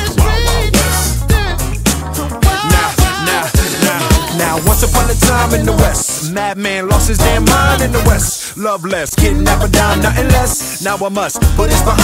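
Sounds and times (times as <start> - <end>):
hip-hop music with vocals: 0.0 - 12.0.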